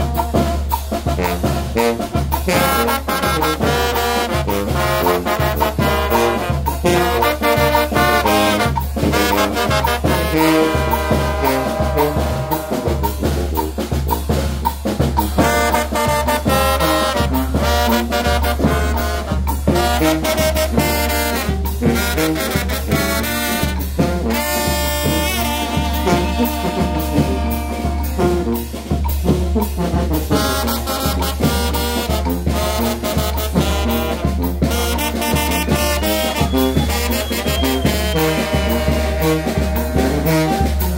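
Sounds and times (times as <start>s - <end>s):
drum kit beat: 0.0s - 40.9s
sousaphone bass line: 0.0s - 40.9s
trumpets and trombones melody: 0.0s - 40.9s.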